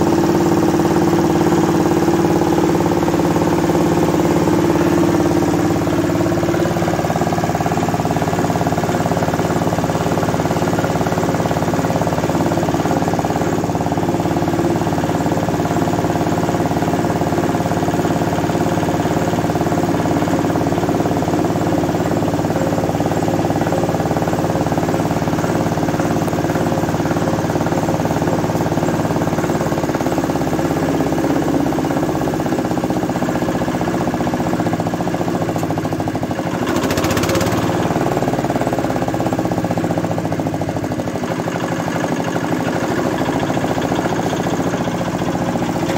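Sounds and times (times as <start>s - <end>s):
diesel engine running steadily: 0.0s - 45.9s
rice huller running: 0.0s - 45.9s.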